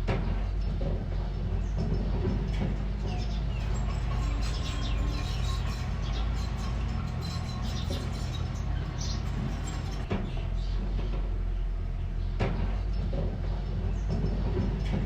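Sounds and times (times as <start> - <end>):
sharp knocks: 0.0 - 11.3, 12.4 - 15.0
earthmoving machine engine running: 0.0 - 15.0
birds chirping: 0.2 - 15.0.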